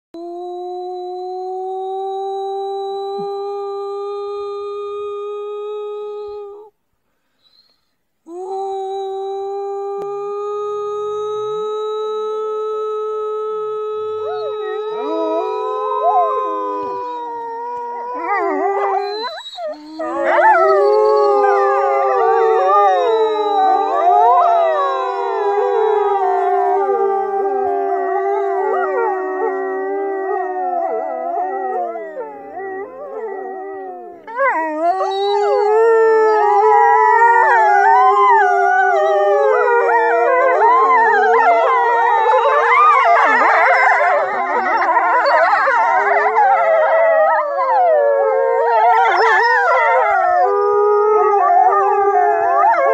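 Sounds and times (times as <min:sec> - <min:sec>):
wolves howling: 0:08.3 - 0:52.9.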